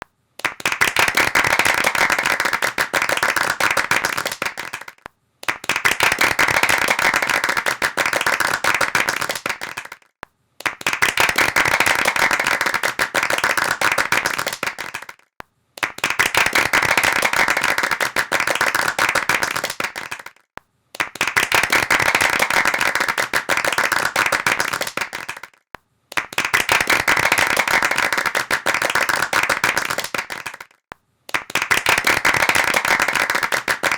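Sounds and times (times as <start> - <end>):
rapid hand clapping: 0.0 - 33.9.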